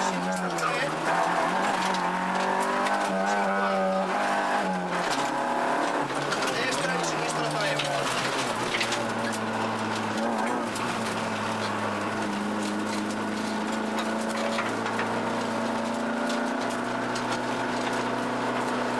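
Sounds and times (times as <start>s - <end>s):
car engine from inside cabin: 0.0s - 18.9s
tyre and road noise: 0.0s - 18.9s.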